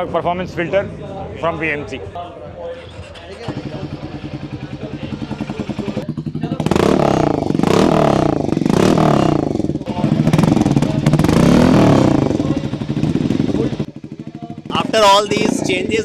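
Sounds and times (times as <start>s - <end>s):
motorcycle engine revving: 2.9s - 16.0s
motorcycle engine idling: 3.0s - 16.0s.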